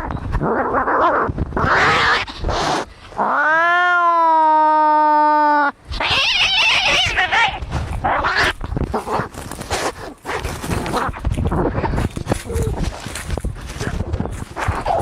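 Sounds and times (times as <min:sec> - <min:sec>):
cats fighting and caterwauling: 0:00.0 - 0:15.0.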